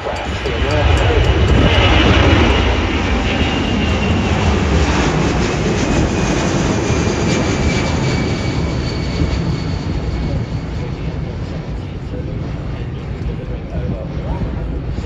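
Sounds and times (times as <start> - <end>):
faint high jet whine: 0.0 - 15.0
jet engines rumbling: 0.0 - 15.0.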